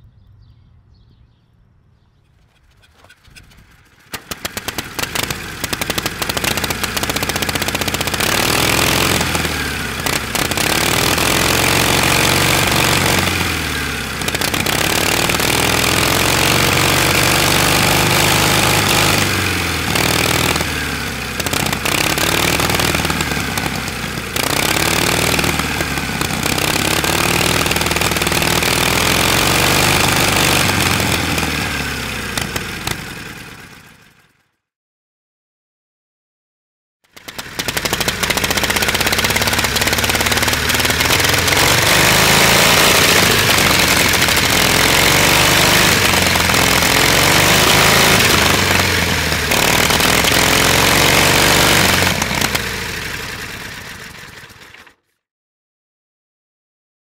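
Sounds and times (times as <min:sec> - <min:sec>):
motorcycle engine revving: 0:02.3 - 0:34.4, 0:37.1 - 0:54.9.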